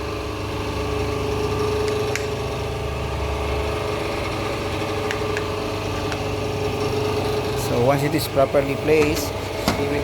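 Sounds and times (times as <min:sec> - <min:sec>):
hydraulic machine humming: 0:00.0 - 0:10.0.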